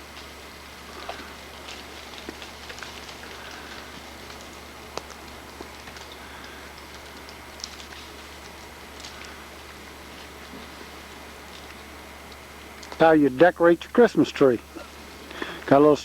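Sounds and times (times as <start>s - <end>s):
ice dropping off trees: 0.0s - 16.0s.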